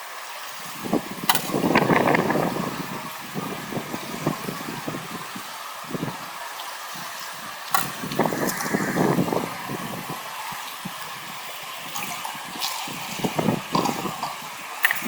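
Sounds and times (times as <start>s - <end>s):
water splashing and pouring: 0.1s - 15.0s.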